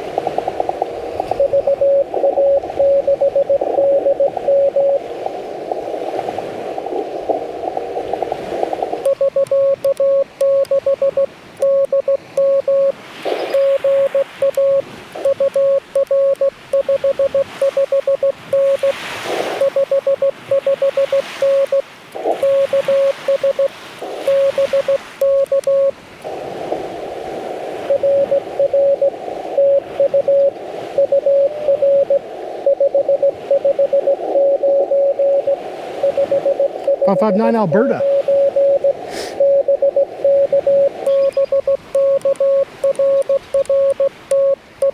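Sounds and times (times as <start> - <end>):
receiver hiss: 0.0 - 44.9
morse code tone: 1.1 - 5.1, 8.8 - 25.9, 27.9 - 44.9
short noise bursts: 5.6 - 26.7, 27.4 - 44.9.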